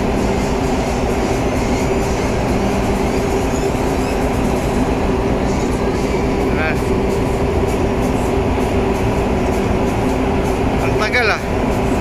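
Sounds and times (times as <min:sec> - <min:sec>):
ship engines droning: 0:00.0 - 0:12.0.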